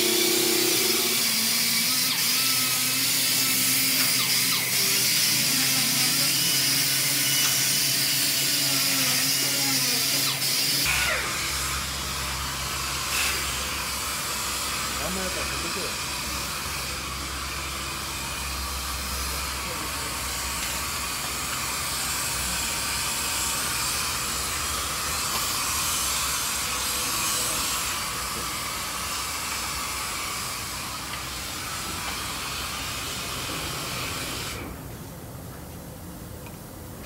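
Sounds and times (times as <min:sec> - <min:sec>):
cutting torch hissing: 0:00.0 - 0:34.8.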